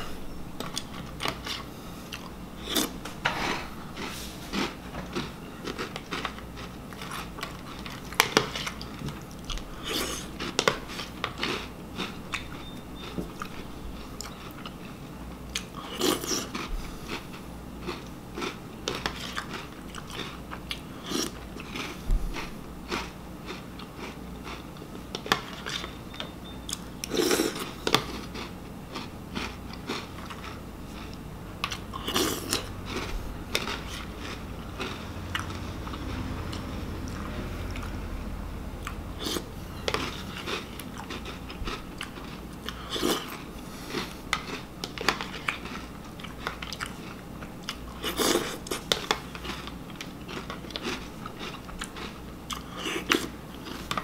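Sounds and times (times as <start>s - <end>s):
chewing crunchy cereal: 0.6s - 38.0s, 38.8s - 54.0s.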